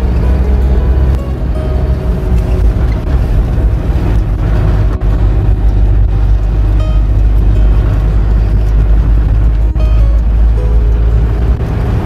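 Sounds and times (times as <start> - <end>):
background music: 0.0 - 12.0
vehicle driving on paved road: 0.0 - 12.0.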